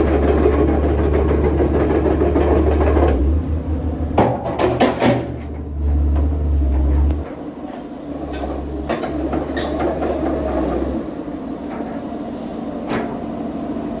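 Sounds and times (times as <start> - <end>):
excavator diesel engine rumbling: 0.0 - 14.0.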